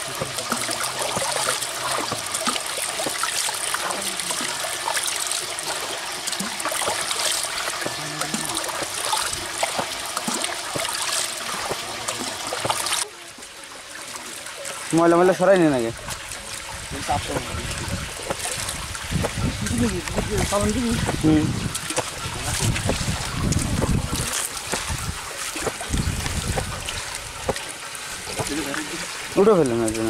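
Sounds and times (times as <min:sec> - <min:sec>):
water pouring into basket: 0:00.0 - 0:30.0
water splashing on fish: 0:00.0 - 0:30.0.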